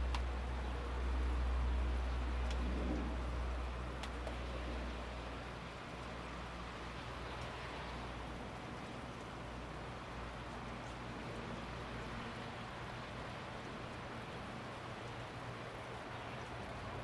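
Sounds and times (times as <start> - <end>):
low steady hum: 0.0 - 17.0
steady rainfall: 0.0 - 17.0.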